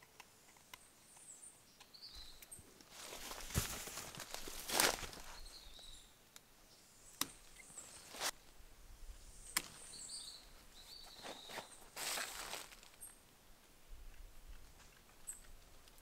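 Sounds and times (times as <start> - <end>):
small birds chirping: 0.0 - 3.5, 4.2 - 8.4, 9.2 - 13.3, 14.0 - 16.0.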